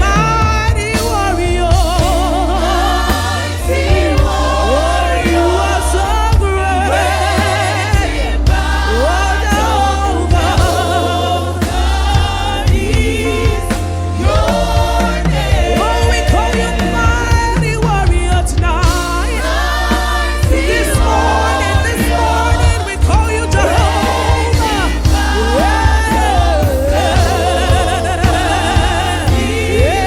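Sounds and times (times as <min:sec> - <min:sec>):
band with steady bass: 0:00.0 - 0:30.0
gospel choir singing: 0:00.0 - 0:30.0.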